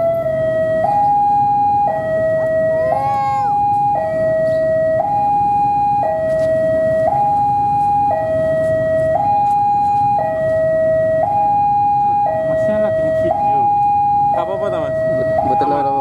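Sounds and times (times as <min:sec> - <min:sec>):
diesel locomotive rumble: 0:00.0 - 0:16.0
two-tone warning alarm: 0:00.0 - 0:16.0.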